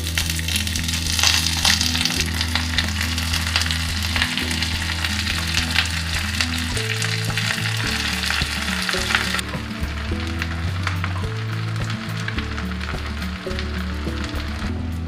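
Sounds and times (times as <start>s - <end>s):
food sizzling and popping in a pot: 0.0s - 15.0s.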